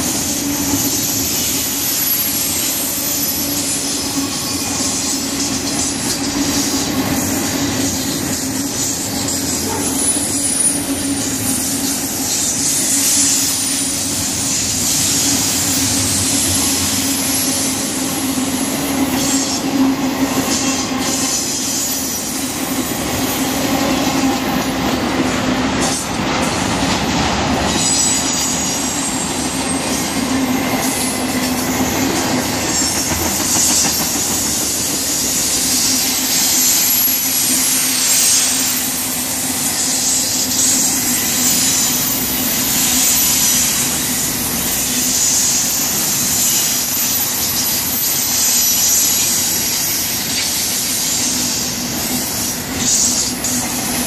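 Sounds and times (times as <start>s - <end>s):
high wheel squeal: 0.0s - 26.1s, 27.5s - 54.0s
freight train wheels rattling: 0.0s - 54.0s.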